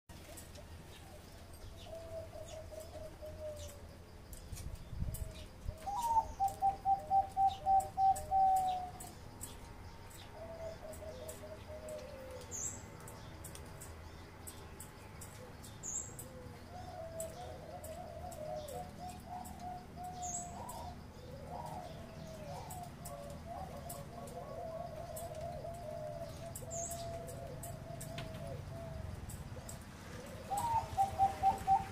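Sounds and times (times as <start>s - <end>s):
dove cooing song: 0.1s - 4.0s, 4.9s - 13.3s, 15.2s - 31.9s.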